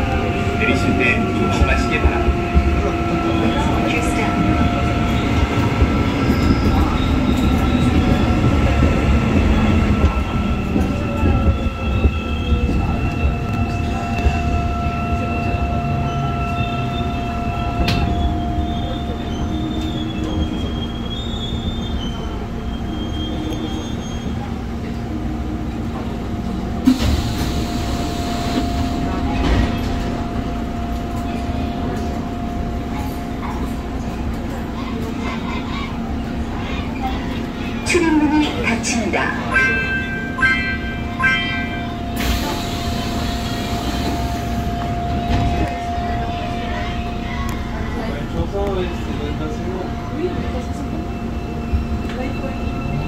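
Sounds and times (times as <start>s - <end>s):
train hum at standstill: 0.0s - 53.0s
train rumble: 0.0s - 53.0s.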